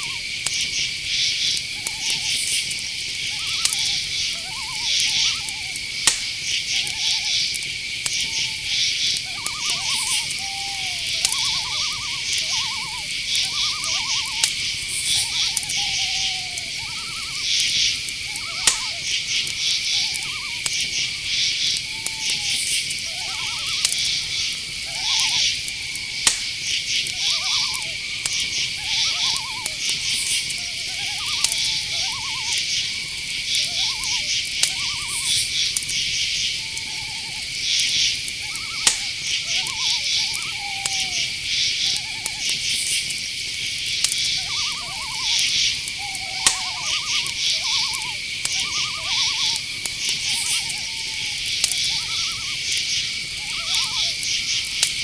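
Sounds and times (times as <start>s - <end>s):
crickets droning: 0.0s - 55.0s
owls calling: 0.0s - 55.0s
sharp clicks: 1.4s - 55.0s.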